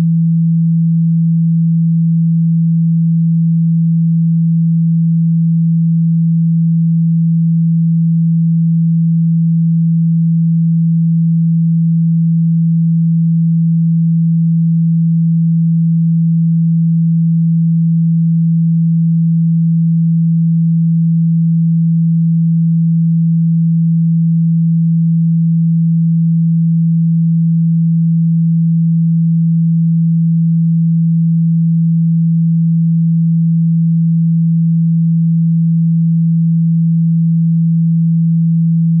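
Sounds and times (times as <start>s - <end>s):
low pure tone: 0.0s - 39.0s.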